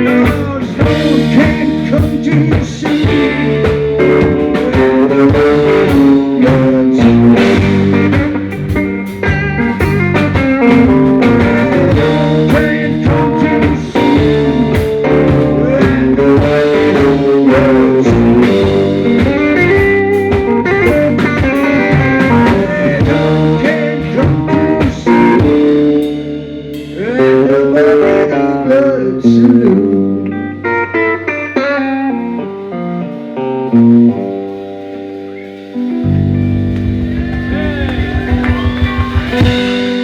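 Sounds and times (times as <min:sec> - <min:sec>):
drum kit: 0:00.0 - 0:28.3, 0:31.9 - 0:40.0
bass guitar: 0:00.0 - 0:40.0
electric guitar: 0:00.0 - 0:40.0.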